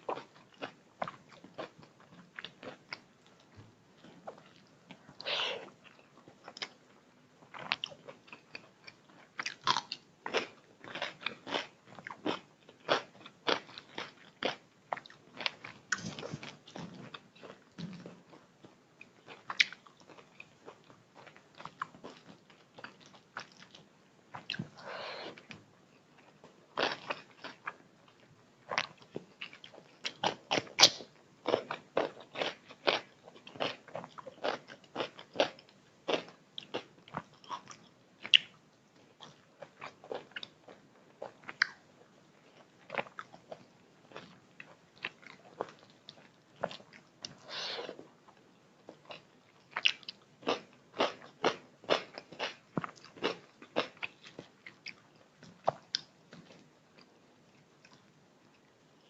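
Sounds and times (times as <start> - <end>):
person chewing food: 0.0 - 58.8.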